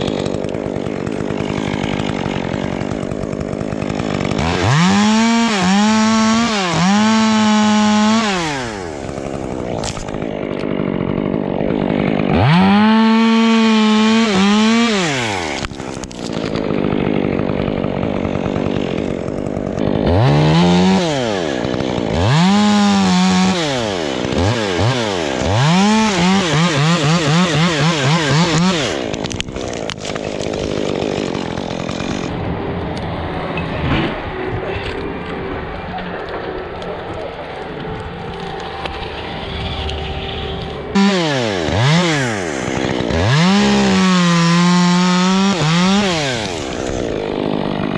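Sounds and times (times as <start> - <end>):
chainsaw revving: 0.0 - 47.9.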